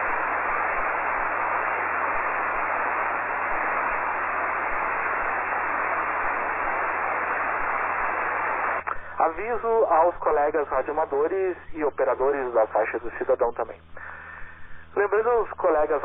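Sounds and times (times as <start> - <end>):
faint low hum: 0.0 - 16.0
radio static hiss: 0.0 - 16.0.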